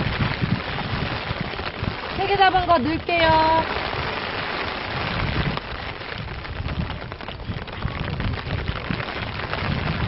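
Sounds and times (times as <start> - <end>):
low wind rumbles: 0.0 - 10.0
rain pattering: 0.0 - 10.0.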